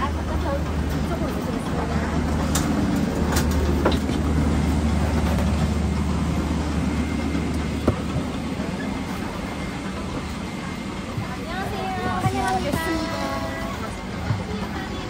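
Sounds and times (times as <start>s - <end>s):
cabin hum: 0.0s - 15.0s.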